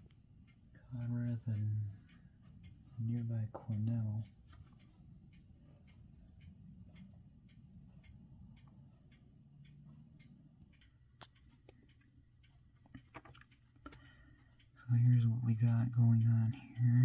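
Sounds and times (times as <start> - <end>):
faint clicks: 0.0 - 17.0
low steady hum: 0.0 - 17.0.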